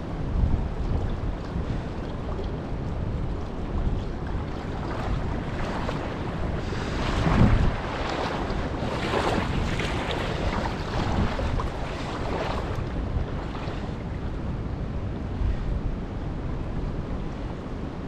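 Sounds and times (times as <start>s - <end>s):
shallow river rushing: 0.0s - 18.0s
wind buffeting microphone: 0.0s - 18.0s.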